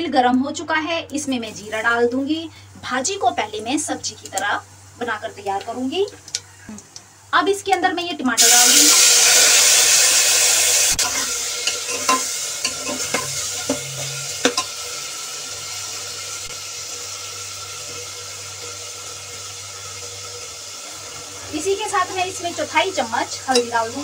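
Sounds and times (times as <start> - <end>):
tomatoes sizzling in oil: 0.2 - 24.0.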